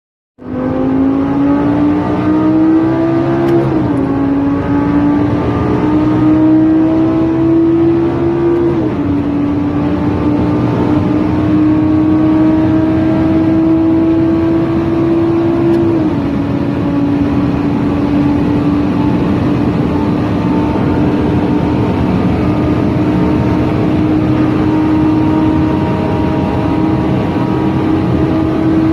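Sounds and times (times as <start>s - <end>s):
sports car exhaust in tunnel: 0.4s - 28.9s.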